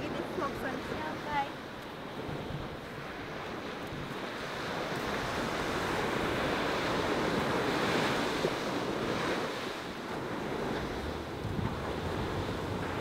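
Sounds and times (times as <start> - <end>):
ocean waves breaking: 0.0 - 13.0
wind buffeting microphone: 0.0 - 13.0.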